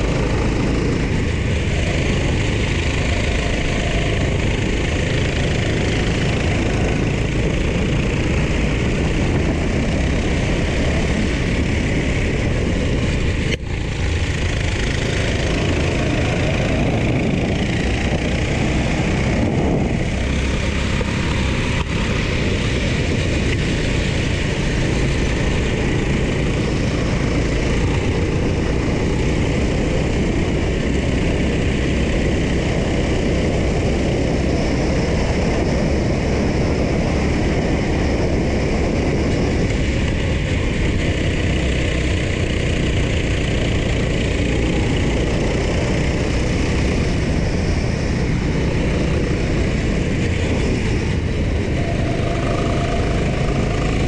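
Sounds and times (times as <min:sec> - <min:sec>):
go-kart engine racing: 0:00.0 - 0:54.0
wind rush on microphone: 0:00.0 - 0:54.0.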